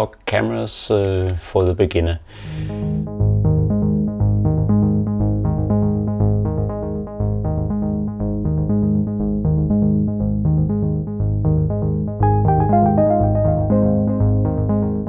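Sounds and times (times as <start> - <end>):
bass line: 2.4 - 15.0
repeated synthesizer notes: 2.4 - 15.0.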